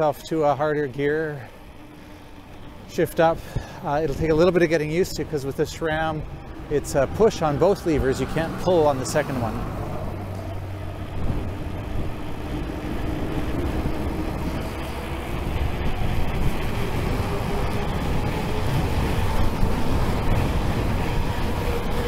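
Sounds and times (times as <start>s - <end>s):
bike tyres humming on pavement: 0.0s - 22.0s
wind rushing over microphone: 3.2s - 22.0s.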